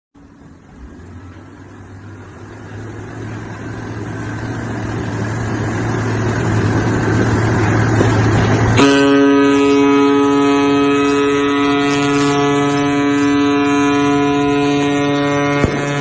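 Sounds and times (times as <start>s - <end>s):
ship engine low hum: 0.1s - 16.0s
rushing noise: 0.2s - 16.0s.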